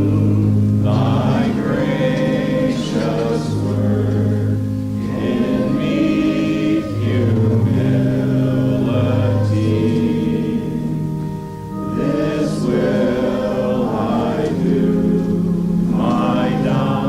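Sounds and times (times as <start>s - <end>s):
congregation singing a hymn: 0.0s - 17.0s
instrumental accompaniment: 0.0s - 17.0s.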